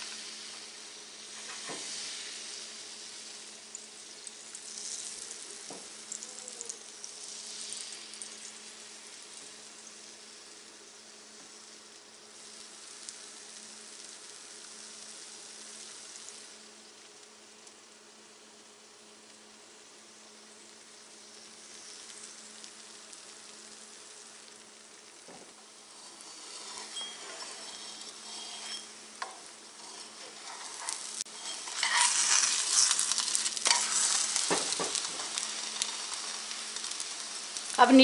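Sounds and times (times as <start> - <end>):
batter sizzling in frying pan: 0.0 - 38.0.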